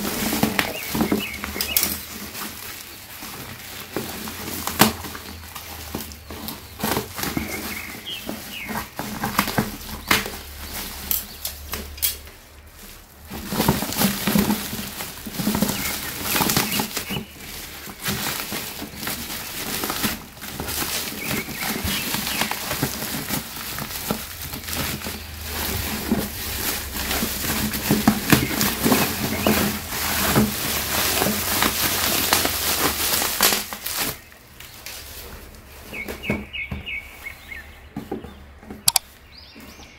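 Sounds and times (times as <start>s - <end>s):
plastic bag crinkling: 0.0s - 35.9s.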